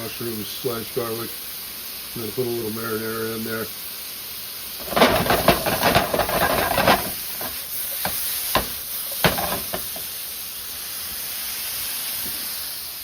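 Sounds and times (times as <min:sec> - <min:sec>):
vegetables sizzling in a hot pan: 0:00.0 - 0:13.0.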